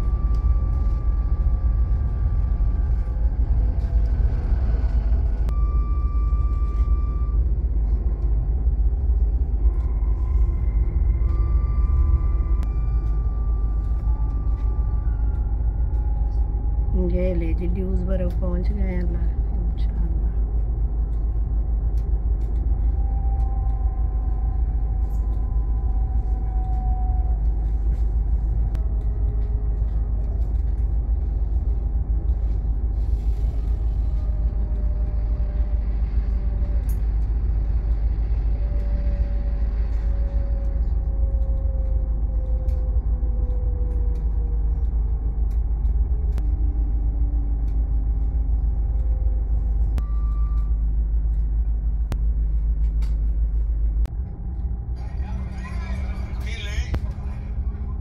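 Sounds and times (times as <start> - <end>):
train motor whine: 0.0 - 58.0
train rumble: 0.0 - 58.0.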